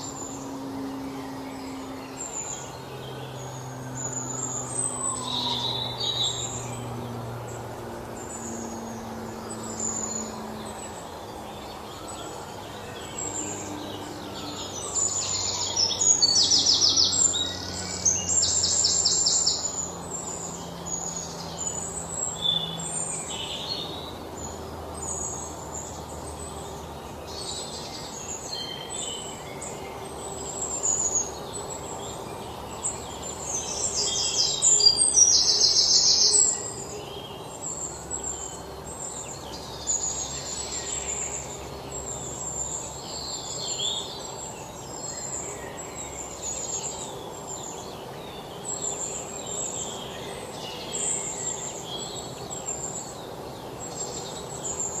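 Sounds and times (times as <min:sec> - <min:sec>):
birds chirping: 0:00.0 - 0:55.0
loud rapid bird trill: 0:00.0 - 0:55.0.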